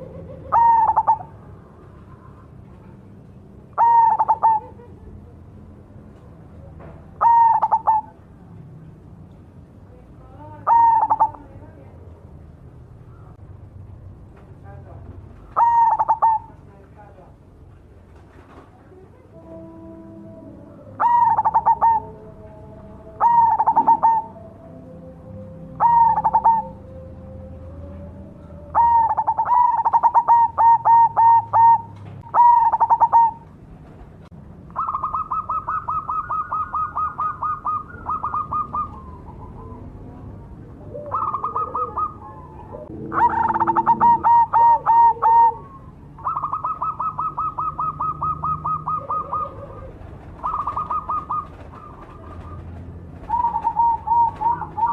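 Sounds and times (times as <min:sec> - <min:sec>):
dove cooing: 0:00.0 - 0:03.1, 0:03.7 - 0:05.4, 0:06.6 - 0:08.4, 0:10.4 - 0:11.8, 0:15.4 - 0:16.6, 0:19.0 - 0:33.6, 0:34.7 - 0:54.9.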